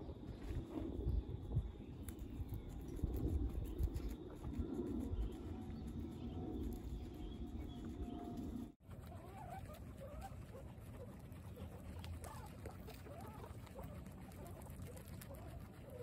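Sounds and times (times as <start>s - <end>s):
faint guinea pig chirps: 0.0s - 16.0s
guinea pigs munching grass: 0.0s - 16.0s.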